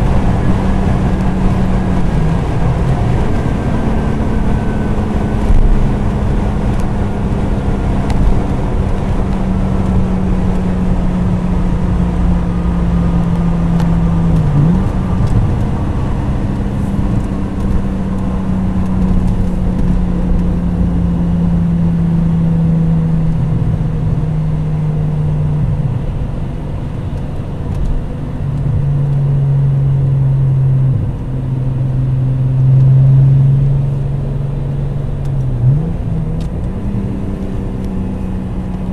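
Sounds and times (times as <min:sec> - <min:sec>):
car engine droning: 0:00.0 - 0:38.9
road and wind noise: 0:00.0 - 0:38.9.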